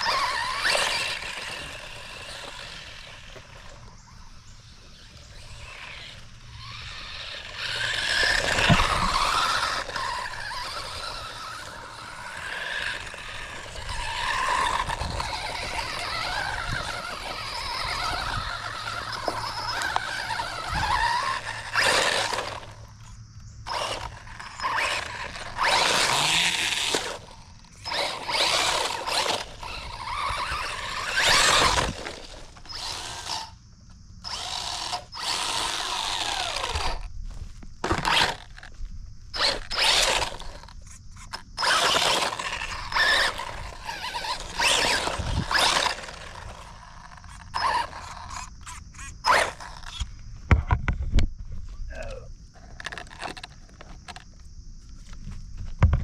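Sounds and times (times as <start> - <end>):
electric motor whining: 0.0 - 33.6, 34.2 - 37.1, 37.8 - 38.7, 39.3 - 50.1.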